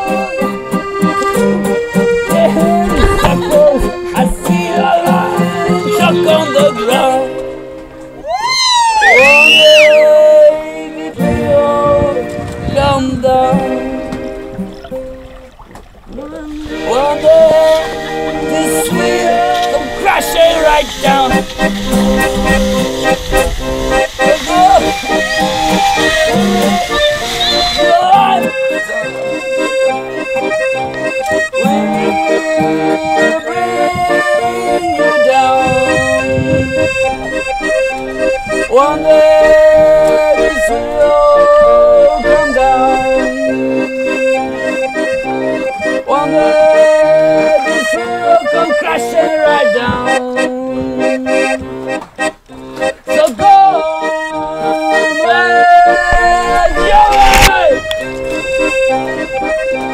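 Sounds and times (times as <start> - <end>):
accordion playing: 0.0 - 59.9.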